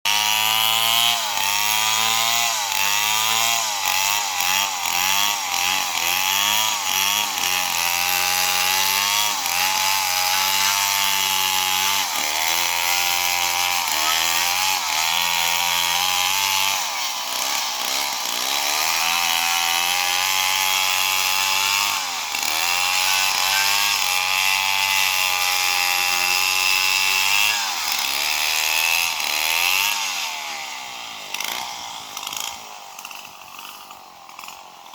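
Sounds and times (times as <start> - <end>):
chainsaw sawing wood: 0.0 - 34.9.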